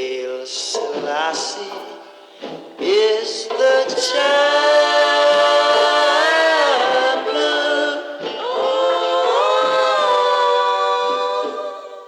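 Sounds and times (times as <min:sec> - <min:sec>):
voices singing in harmony: 0:00.0 - 0:12.0.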